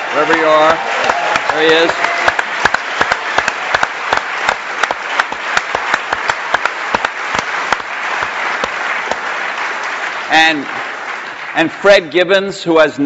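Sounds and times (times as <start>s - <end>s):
large audience applauding: 0.0s - 12.8s.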